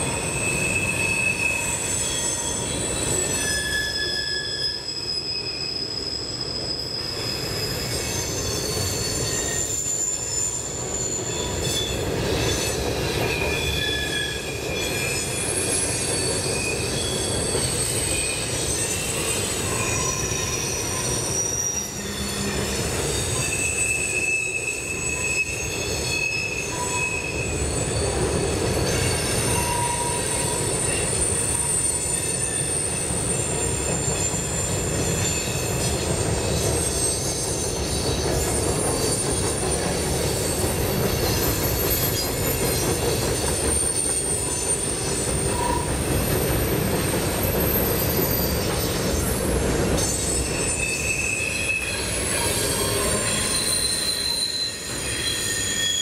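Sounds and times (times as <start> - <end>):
high-pitched wheel squeals: 0.0 - 56.0
train wheels rumbling on rails: 0.0 - 56.0.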